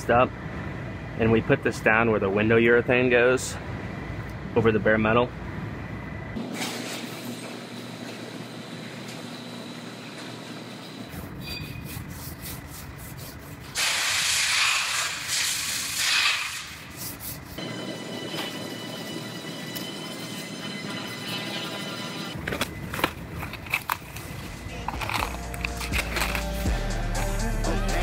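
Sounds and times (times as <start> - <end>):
low shop background: 0.0 - 28.0.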